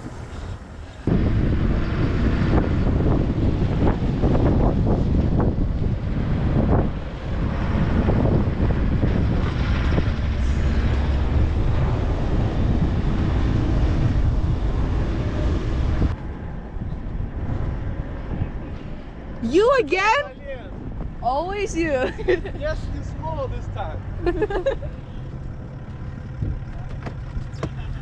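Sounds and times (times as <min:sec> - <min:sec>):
wind buffeting microphone: 0:00.0 - 0:27.8
vehicle engine and tyre rumble: 0:00.0 - 0:28.0.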